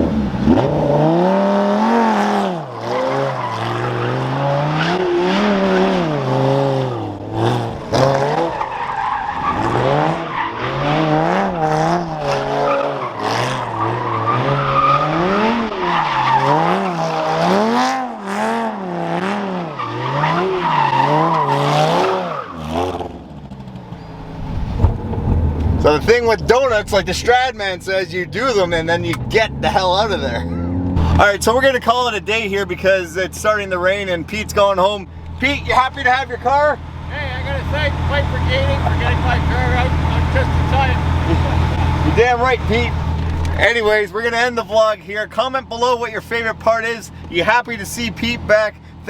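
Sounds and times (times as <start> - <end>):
car engine revving: 0.0 - 49.0
tires squealing: 0.0 - 49.0.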